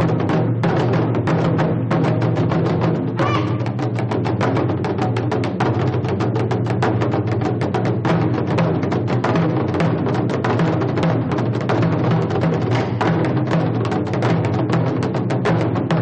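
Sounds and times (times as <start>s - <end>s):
drum beaten fast: 0.0s - 16.0s.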